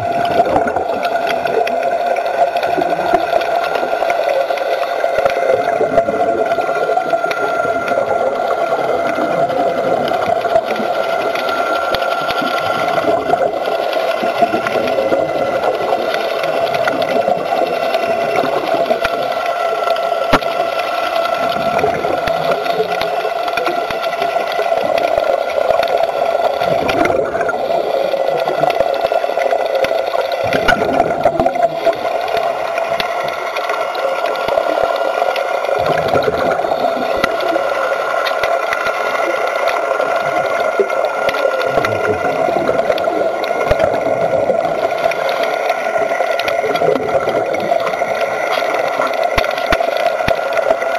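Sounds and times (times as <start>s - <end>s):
diver bubbles gurgling: 0.0s - 50.9s
mechanical drone underwater: 0.0s - 50.9s.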